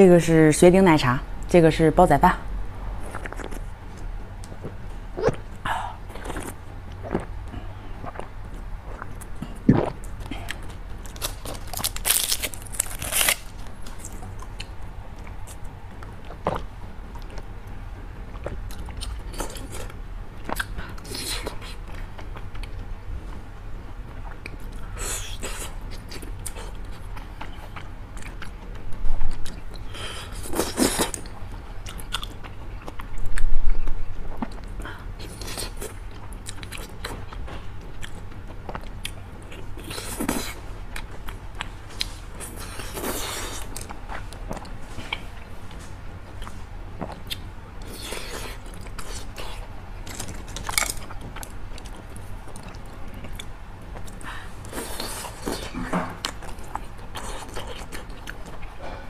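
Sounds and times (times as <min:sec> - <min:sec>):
person chewing crunchy food: 0:03.0 - 0:17.5, 0:18.2 - 0:22.8, 0:24.0 - 0:59.0.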